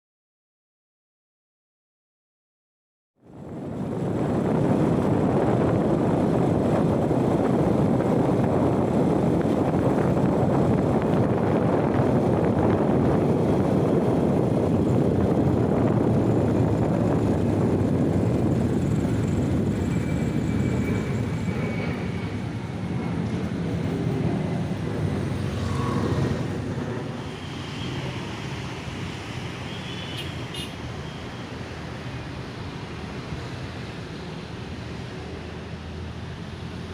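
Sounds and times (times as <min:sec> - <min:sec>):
passing vehicle rumble: 0:03.2 - 0:36.9.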